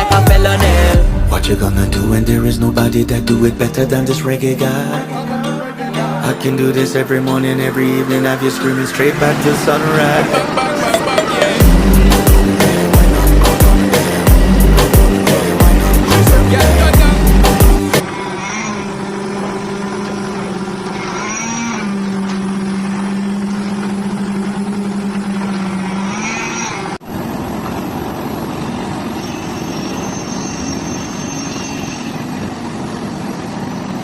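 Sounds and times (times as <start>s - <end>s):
engine humming: 0.0s - 34.0s
rough noisy engine: 0.0s - 34.0s.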